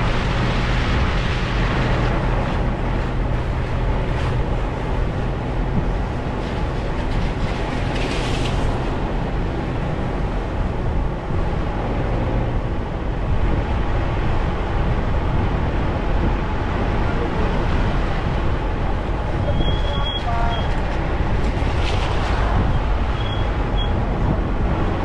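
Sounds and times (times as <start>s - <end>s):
vehicle road and engine rumble: 0.0s - 25.0s.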